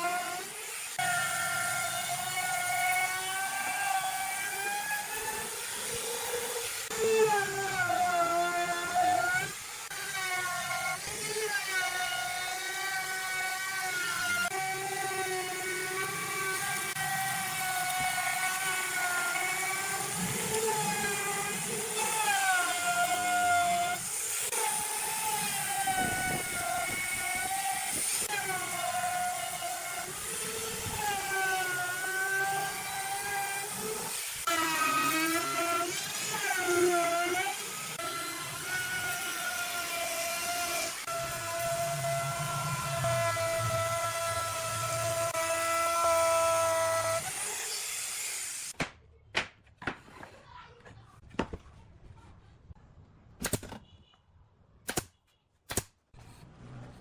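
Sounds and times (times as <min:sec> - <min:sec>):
power tool motor whining on wood: 0:00.0 - 0:48.8.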